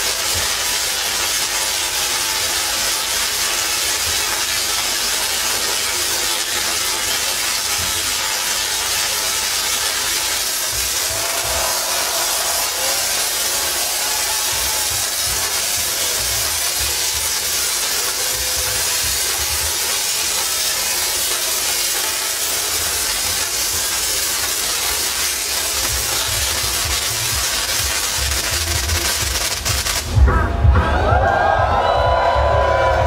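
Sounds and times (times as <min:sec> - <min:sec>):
electric arcs crackling: 0:00.0 - 0:30.1.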